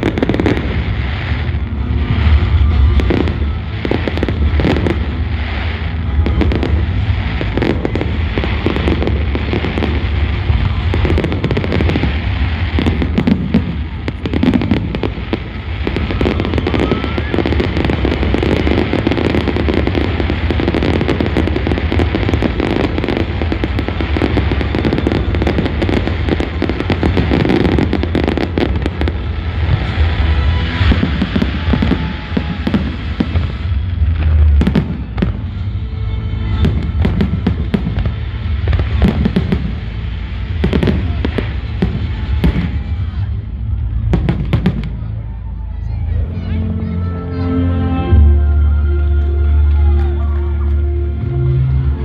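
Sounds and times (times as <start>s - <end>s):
fireworks bangs and crackle: 0.0s - 46.6s
low rumble: 0.0s - 52.0s.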